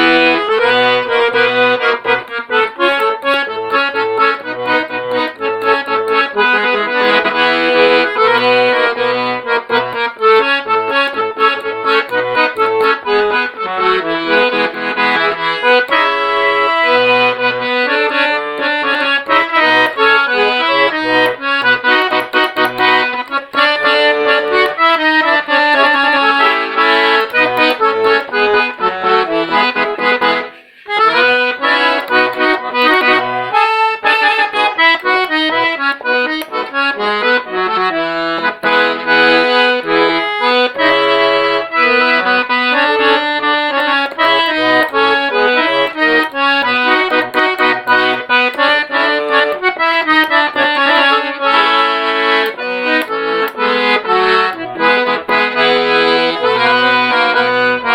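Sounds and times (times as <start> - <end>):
accordion playing a tune: 0.0 - 57.9.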